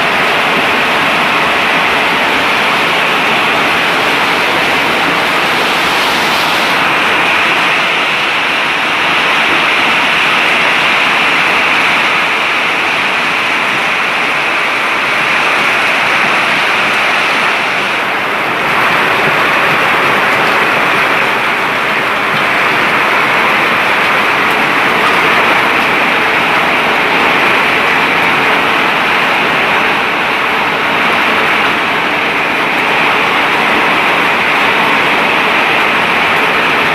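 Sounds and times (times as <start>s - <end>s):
hail and heavy rain falling: 0.0s - 36.9s.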